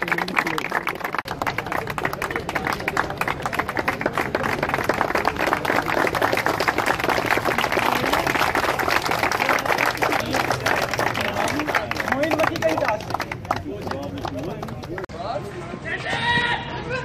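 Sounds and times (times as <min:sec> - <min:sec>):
people applauding: 0:00.0 - 0:15.1.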